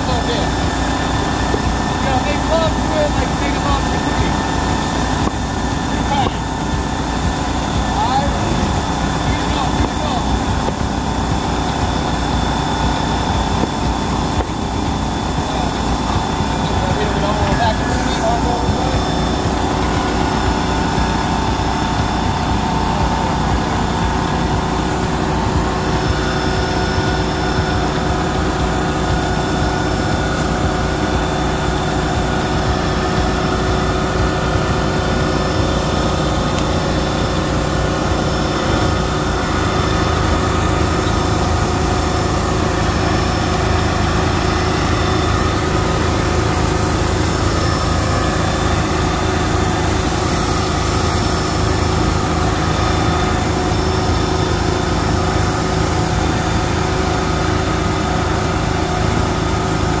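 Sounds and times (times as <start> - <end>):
small engine idling: 0.0 - 60.0.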